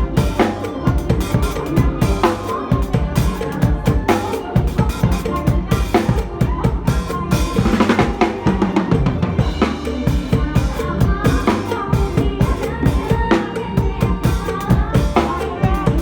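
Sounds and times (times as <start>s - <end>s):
drum kit playing a dance beat: 0.0s - 16.0s
recorded backing music: 0.0s - 16.0s.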